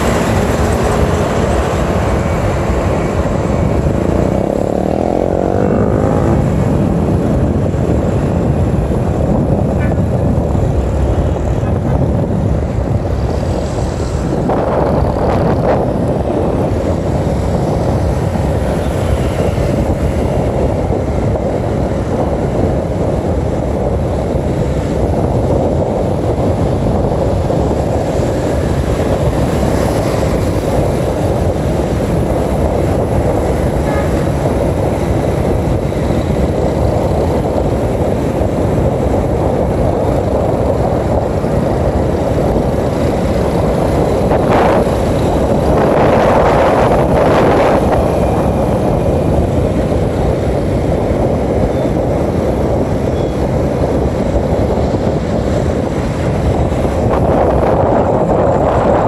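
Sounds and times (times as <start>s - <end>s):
motorbike engine: 0.0s - 59.0s
rush of wind: 0.0s - 59.0s.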